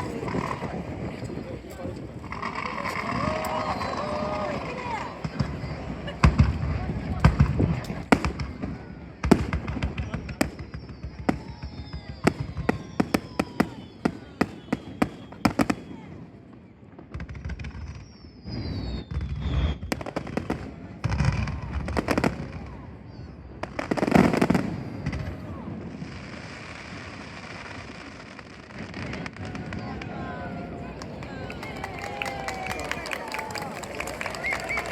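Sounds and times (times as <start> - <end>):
fireworks cracks and bangs: 0.0 - 34.9
fireworks falling whistles: 0.0 - 34.9.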